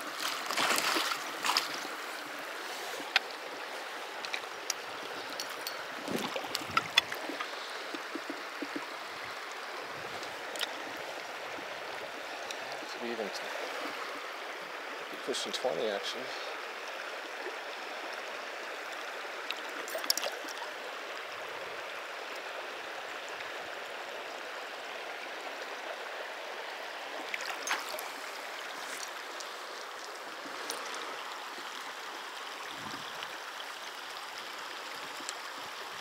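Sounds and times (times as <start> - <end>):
river running over gravel: 0.0 - 36.0.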